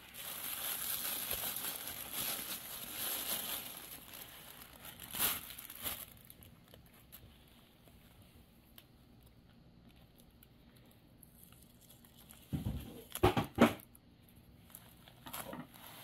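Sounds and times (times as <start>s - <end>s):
rustling: 0.0s - 13.2s, 14.2s - 16.0s.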